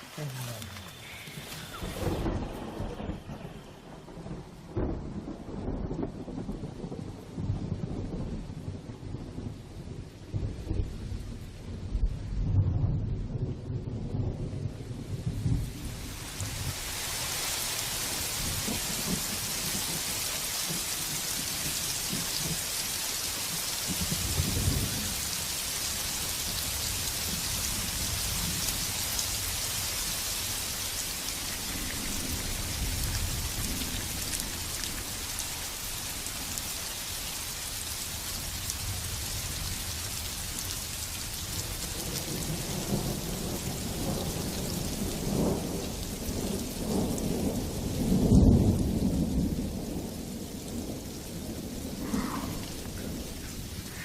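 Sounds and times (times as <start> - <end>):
thunder rumbling: 0.0 - 36.8, 38.0 - 54.0
heavy rain pouring: 0.0 - 54.0.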